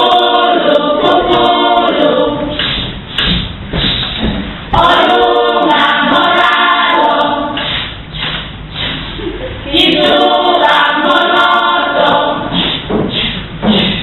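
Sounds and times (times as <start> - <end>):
group singing unaccompanied: 0.0 - 3.4, 4.7 - 8.4, 9.6 - 14.0.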